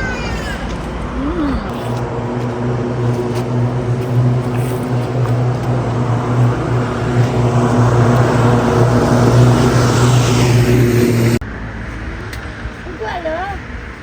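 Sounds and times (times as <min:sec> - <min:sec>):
road noise hiss: 0:00.0 - 0:14.0
vehicle engine hum: 0:00.0 - 0:14.0.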